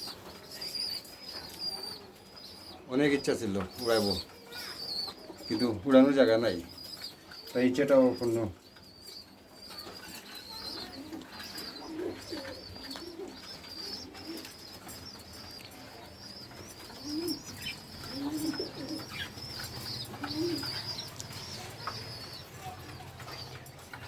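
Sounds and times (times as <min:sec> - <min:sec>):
pigeons cooing: 0:00.0 - 0:24.0
small birds twittering: 0:00.0 - 0:24.0.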